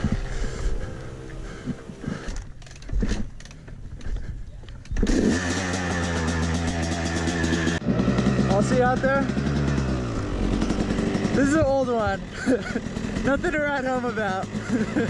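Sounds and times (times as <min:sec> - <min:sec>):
dirt bike engine idling: 0:00.0 - 0:04.4, 0:05.0 - 0:15.0.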